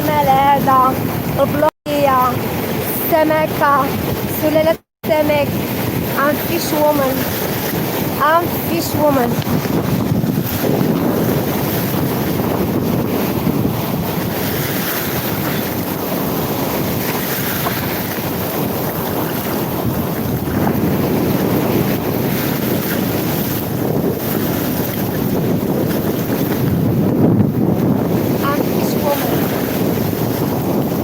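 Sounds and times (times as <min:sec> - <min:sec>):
sea surf: 0:00.0 - 0:31.0
wind buffeting microphone: 0:00.0 - 0:31.0.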